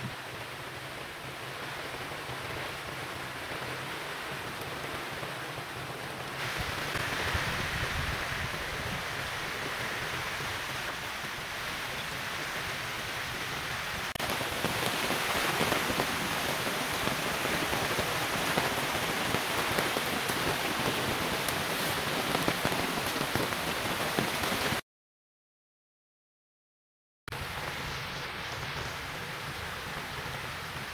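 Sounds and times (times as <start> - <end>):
rain falling: 0.0 - 24.8, 27.3 - 30.9.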